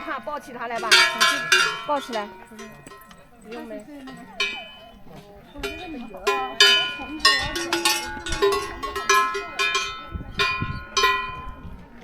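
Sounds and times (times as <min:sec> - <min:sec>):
cowbells clanking: 0:00.0 - 0:12.0.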